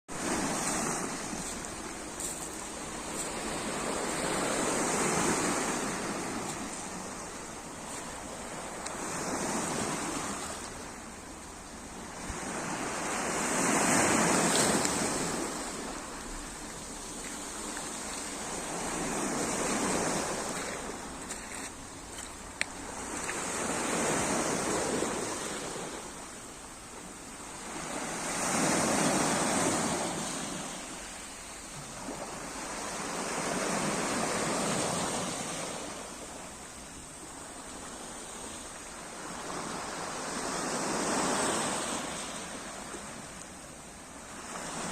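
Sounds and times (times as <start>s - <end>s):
sea waves breaking on shore: 0.1s - 44.9s.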